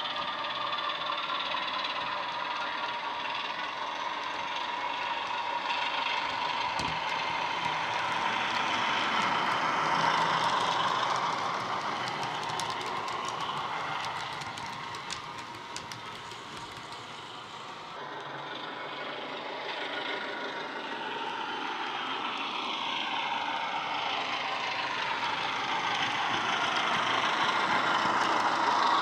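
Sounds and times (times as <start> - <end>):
wheels clicking over track: 0.0 - 21.3, 22.2 - 29.0
locomotive sound from small speaker: 0.0 - 29.0.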